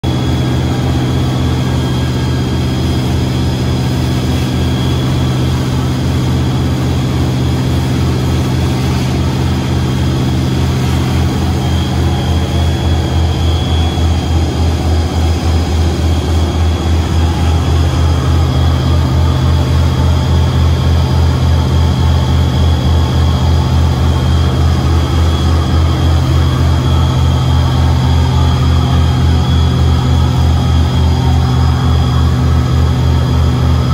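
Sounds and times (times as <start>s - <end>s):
boat engine throbbing: 0.0s - 33.9s.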